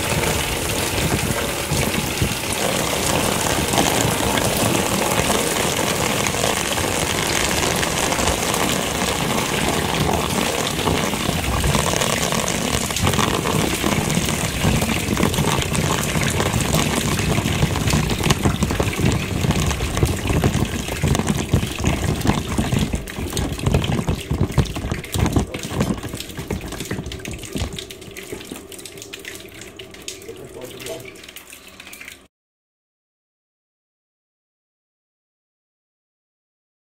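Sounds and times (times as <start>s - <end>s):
water dripping: 0.0s - 32.3s
water splashing into a vessel: 0.0s - 32.3s.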